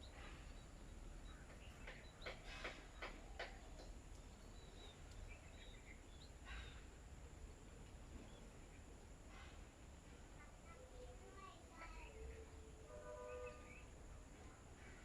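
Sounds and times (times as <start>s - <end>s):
small birds chirping: 0.0s - 9.2s, 10.4s - 15.0s.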